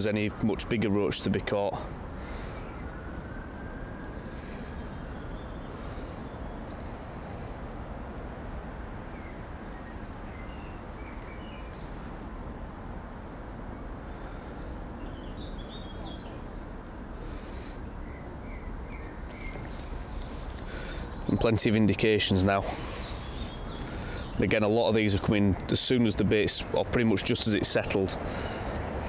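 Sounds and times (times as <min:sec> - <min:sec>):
birds chirping: 0:00.0 - 0:29.0
low background noise: 0:00.0 - 0:29.0.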